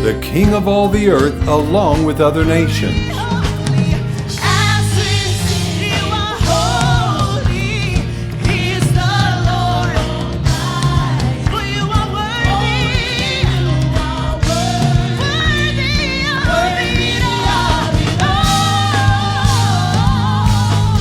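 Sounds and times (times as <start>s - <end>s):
band with steady bass: 0.0s - 21.0s
voices singing with vibrato: 0.0s - 21.0s.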